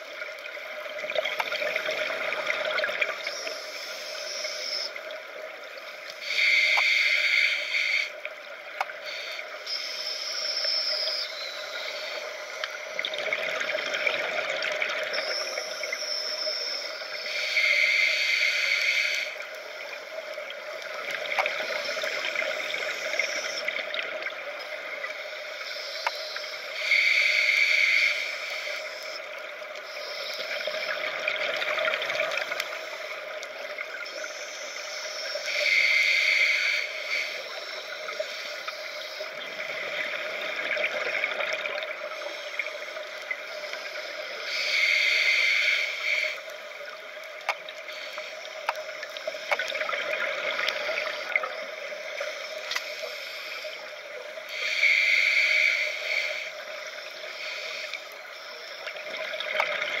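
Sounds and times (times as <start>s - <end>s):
regulator hiss: 0.0s - 60.0s.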